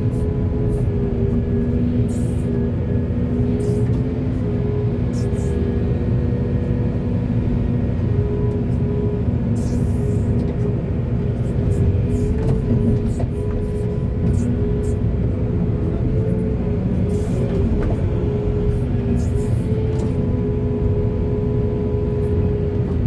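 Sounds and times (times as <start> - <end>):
heavy diesel engines droning: 0.0 - 23.0.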